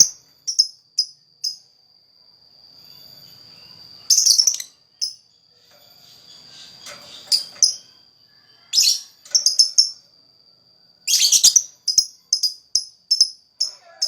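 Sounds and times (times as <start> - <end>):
bird chirping: 0.0 - 1.6, 2.9 - 10.0, 11.0 - 13.8.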